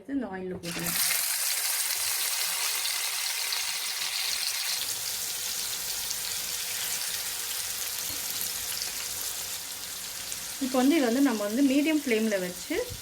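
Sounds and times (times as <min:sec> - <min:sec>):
chicken sizzling in hot oil: 0:00.7 - 0:13.0.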